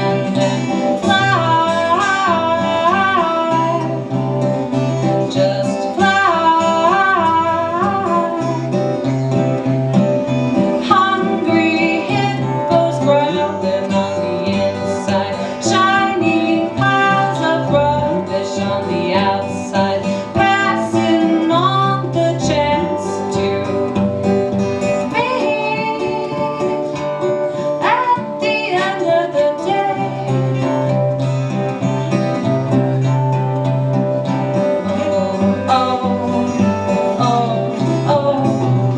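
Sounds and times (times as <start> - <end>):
woman singing: 0.0 - 9.5, 10.6 - 31.2, 34.4 - 38.9
strummed guitars: 0.0 - 38.9.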